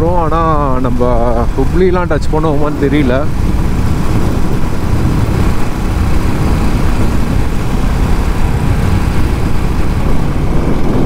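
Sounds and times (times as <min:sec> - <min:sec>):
motorcycle engine drone: 0:00.0 - 0:11.0
wind rumble on microphone: 0:00.0 - 0:11.0.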